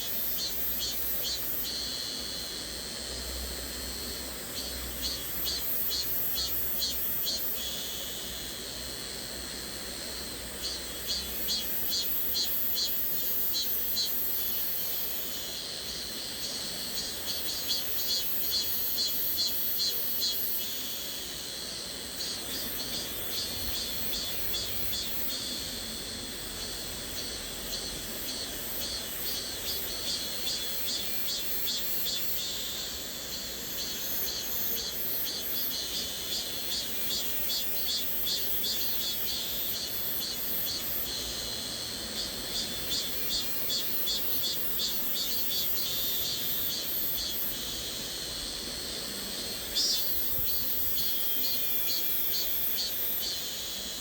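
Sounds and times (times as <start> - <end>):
cicada chirring: 0.0 - 54.0.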